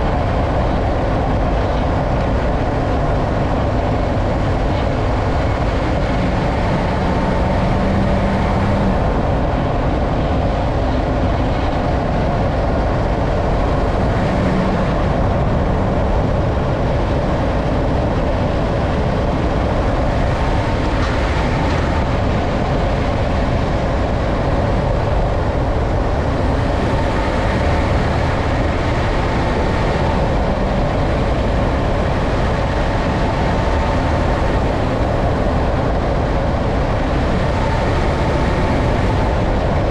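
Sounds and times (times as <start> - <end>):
pickup truck road rumble: 0.0 - 39.9.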